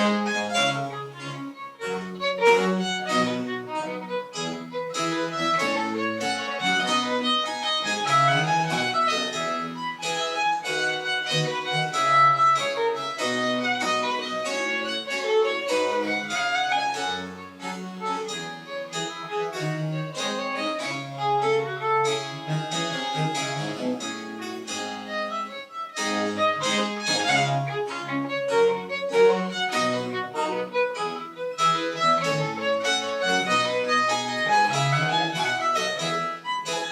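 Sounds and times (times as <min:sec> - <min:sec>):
baroque chamber ensemble playing: 0:00.0 - 0:36.9.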